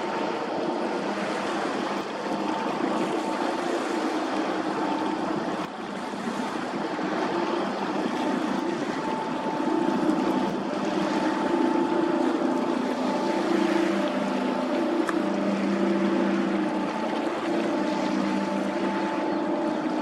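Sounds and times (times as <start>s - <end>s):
boat engine hum: 0.0s - 20.0s
rushing water: 0.0s - 20.0s.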